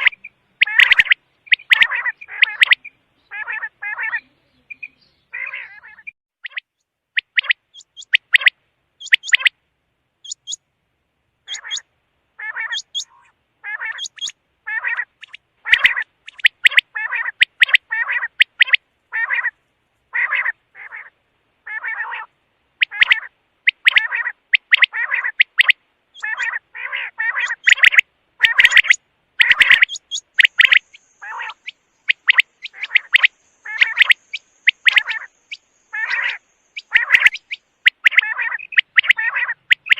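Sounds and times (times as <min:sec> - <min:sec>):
quail calling: 0:00.0 - 0:09.6, 0:10.2 - 0:10.6, 0:11.4 - 0:39.9.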